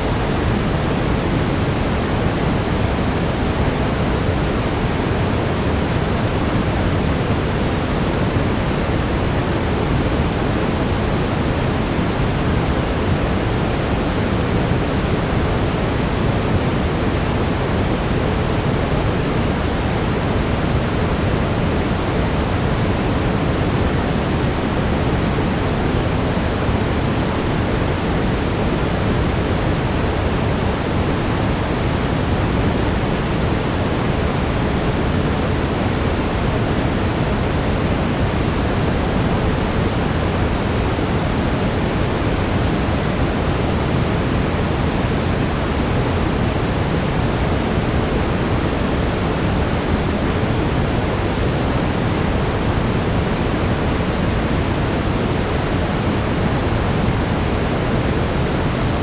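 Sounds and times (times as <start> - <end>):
brown noise hiss: 0.0 - 59.0.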